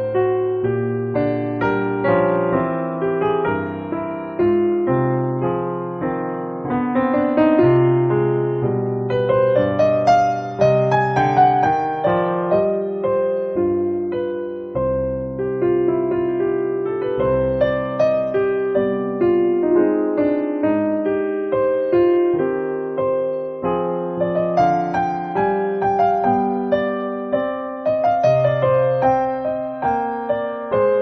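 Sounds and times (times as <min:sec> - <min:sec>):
gentle piano melody: 0:00.0 - 0:31.0.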